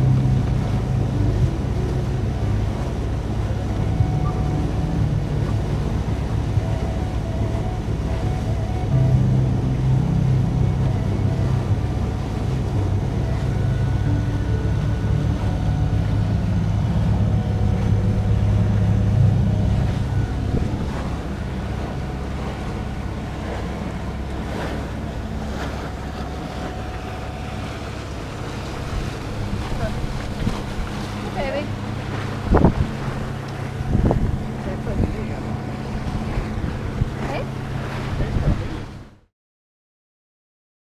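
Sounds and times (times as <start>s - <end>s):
low steady hum: 0.0s - 39.2s
wind on microphone: 0.0s - 39.2s
water noise: 0.0s - 39.3s.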